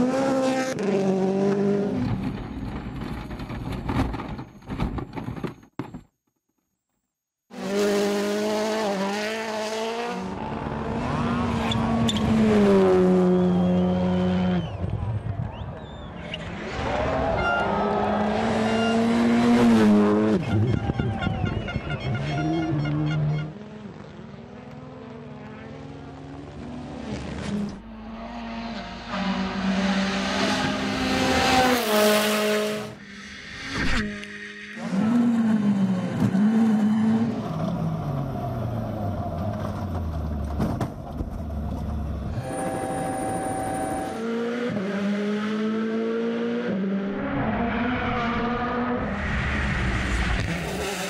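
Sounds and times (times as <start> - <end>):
rally car engine revving: 0.0 - 2.5, 7.5 - 51.0.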